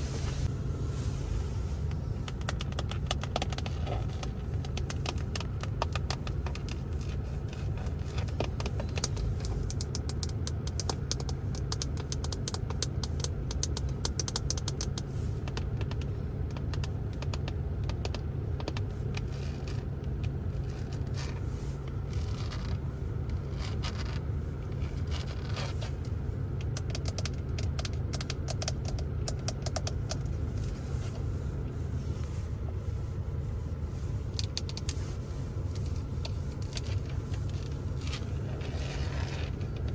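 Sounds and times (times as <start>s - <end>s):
steady low rumble: 0.0s - 39.9s
rapid tapping and scratching: 1.8s - 39.9s.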